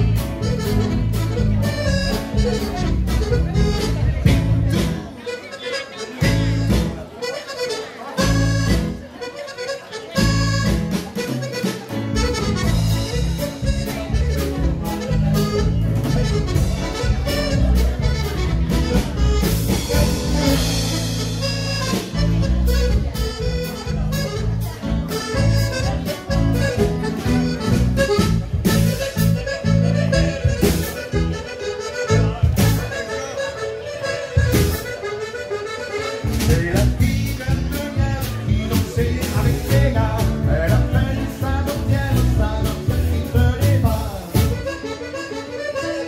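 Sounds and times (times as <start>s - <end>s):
drums playing a dance beat: 0.0s - 5.2s, 6.2s - 7.1s, 10.2s - 33.1s, 34.4s - 35.0s, 36.2s - 44.9s
accordion playing a tune: 0.0s - 46.0s.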